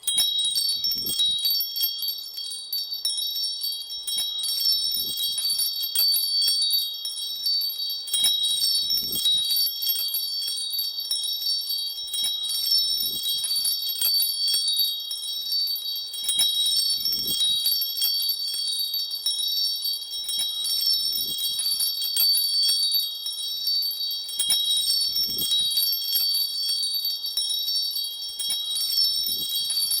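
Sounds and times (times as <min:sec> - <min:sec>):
metal chimes tinkling: 0:00.0 - 0:30.0.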